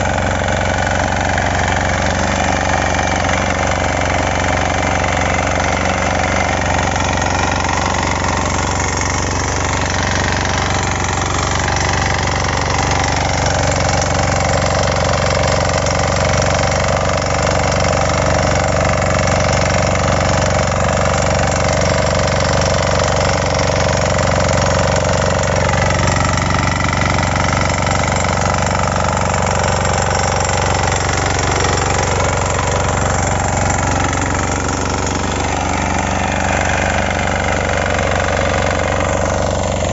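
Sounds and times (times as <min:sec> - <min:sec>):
cultivator engine running: 0:00.0 - 0:39.9.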